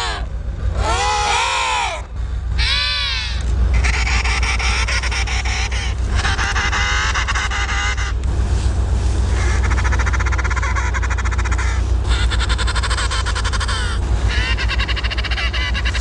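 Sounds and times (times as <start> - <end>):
penguins braying: 0.0 - 8.3, 9.2 - 16.0
steady low rumble: 0.0 - 16.0.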